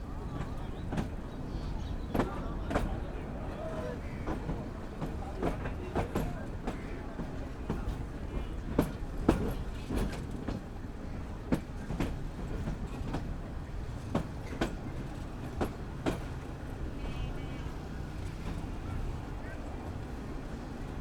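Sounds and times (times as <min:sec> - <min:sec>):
train low rumble: 0:00.0 - 0:21.0
train wheels clacking over rail joints: 0:00.2 - 0:21.0.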